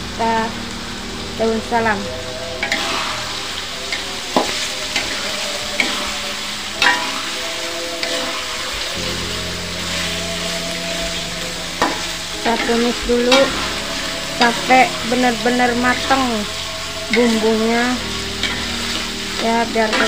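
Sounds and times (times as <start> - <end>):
paste sizzling in hot oil: 0.5 - 20.0
metal spoon scraping wok: 2.6 - 20.0.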